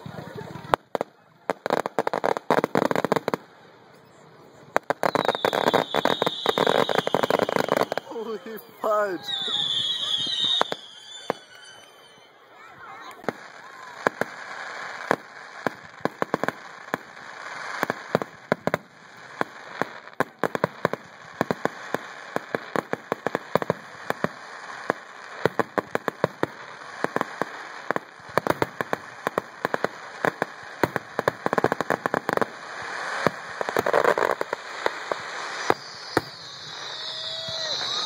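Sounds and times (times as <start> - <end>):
fireworks popping and banging: 0.0 - 3.6, 4.6 - 12.3, 12.9 - 38.0
fireworks crackling: 0.0 - 38.0.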